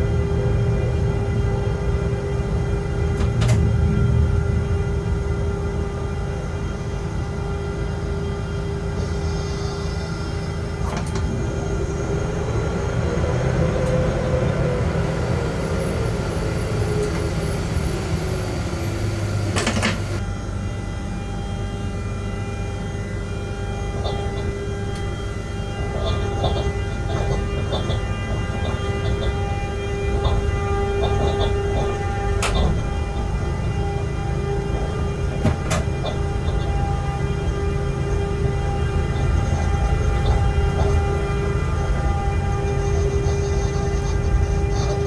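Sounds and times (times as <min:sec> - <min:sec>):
humming tones: 0:00.0 - 0:45.0
locomotive low rumble: 0:00.0 - 0:45.0.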